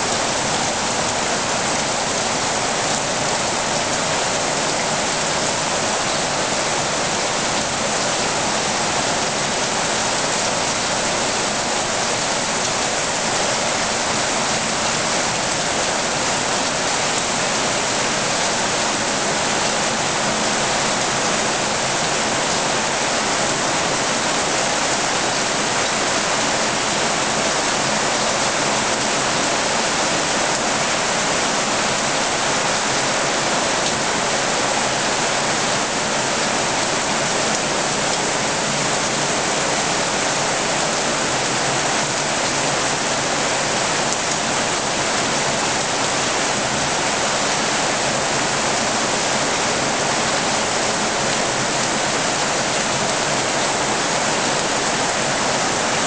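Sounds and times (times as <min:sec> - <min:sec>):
heavy rain splashing on water: 0:00.0 - 0:56.0.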